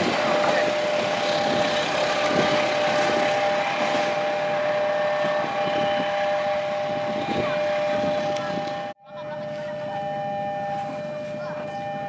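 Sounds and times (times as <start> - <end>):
train rumbling over rails: 0.0 - 9.9
two-note high tone: 2.3 - 12.0.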